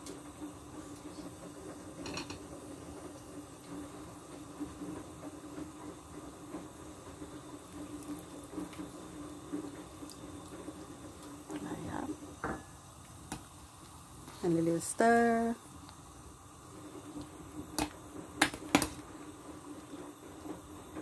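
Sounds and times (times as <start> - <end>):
soup bubbling at a boil: 0.0 - 21.0.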